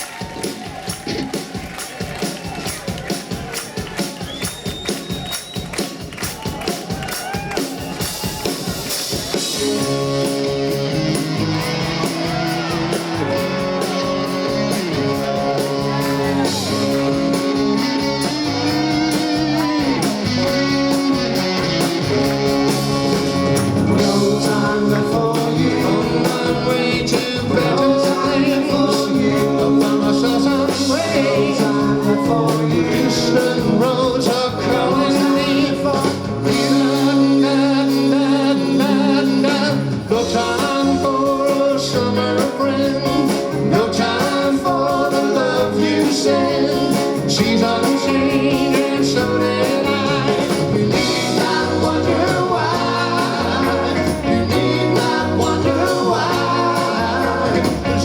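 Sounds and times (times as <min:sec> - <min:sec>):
live rock band playing: 0:00.0 - 0:58.0
electric guitar with bent notes: 0:00.1 - 0:58.0.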